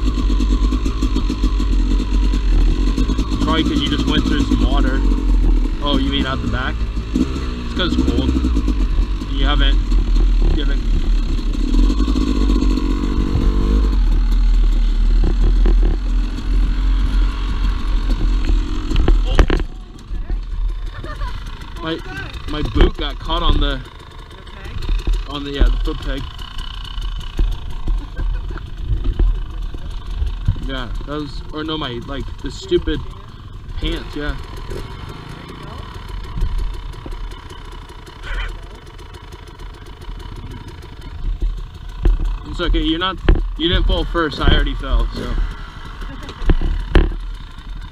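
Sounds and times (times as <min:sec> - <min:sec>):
knocks and rattles: 0:00.0 - 0:24.0, 0:24.6 - 0:32.5, 0:38.9 - 0:47.9
dirt bike engine running: 0:00.0 - 0:47.9.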